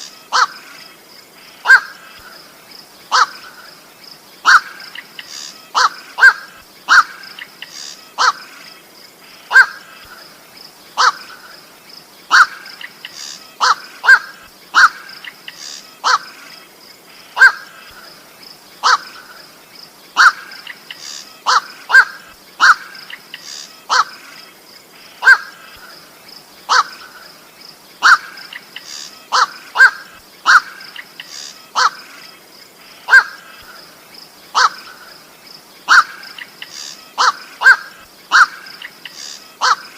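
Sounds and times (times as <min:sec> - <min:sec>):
harsh bird calls: 0:00.0 - 0:11.7, 0:12.3 - 0:39.9.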